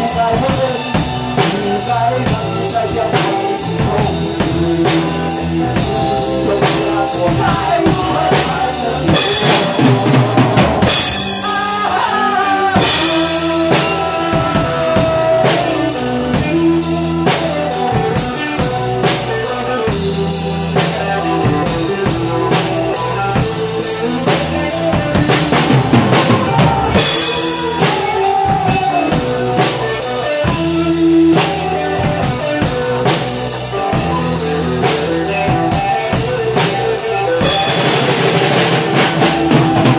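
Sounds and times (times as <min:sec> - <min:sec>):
backing track with guitar: 0:00.0 - 0:39.9
drum kit rock beat: 0:00.0 - 0:39.9.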